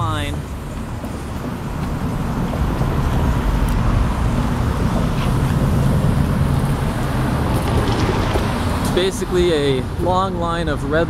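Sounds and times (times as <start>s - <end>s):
slow cars passing: 0.0s - 11.0s.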